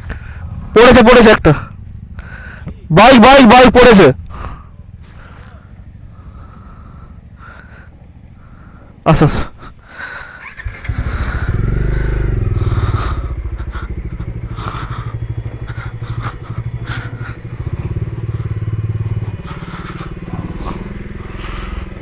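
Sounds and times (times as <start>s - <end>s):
engine knocks and clatter: 0.0s - 22.0s
motorcycle engine at low revs: 0.0s - 22.0s.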